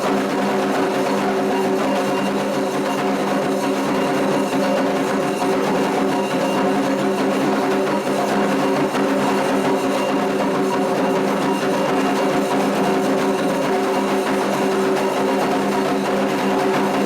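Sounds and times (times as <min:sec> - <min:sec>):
fast drum percussion: 0:00.0 - 0:17.0.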